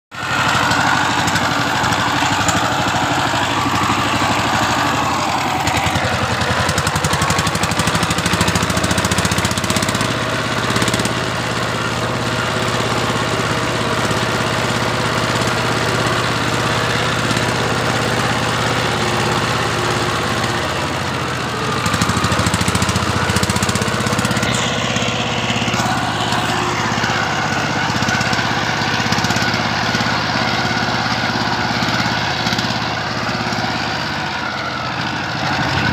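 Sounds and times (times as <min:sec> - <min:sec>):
diesel tiller engine running: 0:00.1 - 0:35.9.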